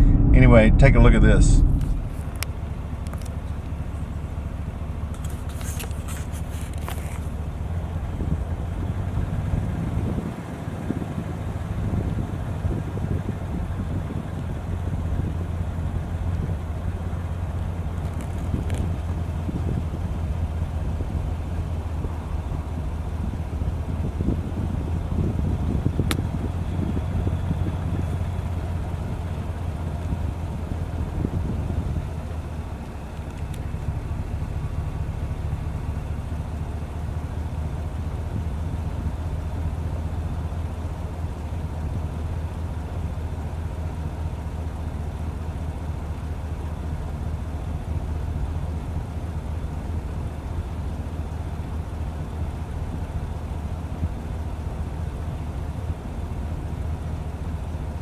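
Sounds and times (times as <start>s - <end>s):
car engine hum: 0.0s - 58.0s
road noise: 0.0s - 58.0s.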